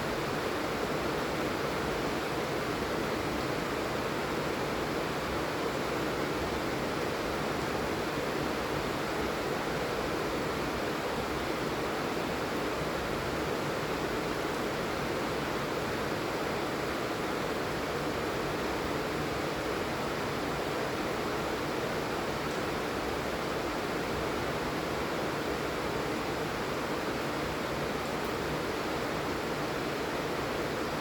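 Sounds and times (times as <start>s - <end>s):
steady rain hiss: 0.0s - 31.0s.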